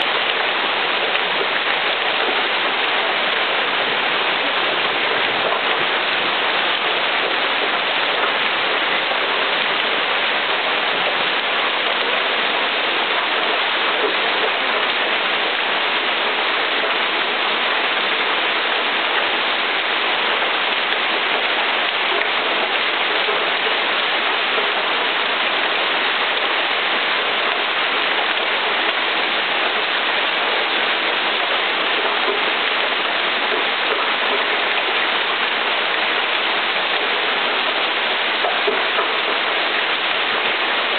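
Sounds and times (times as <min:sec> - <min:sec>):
heavy rain and hail: 0:00.0 - 0:40.9.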